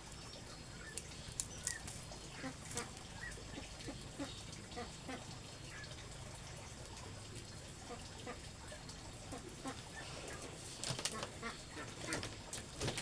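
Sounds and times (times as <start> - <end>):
farm birds calling: 0.0 - 13.0.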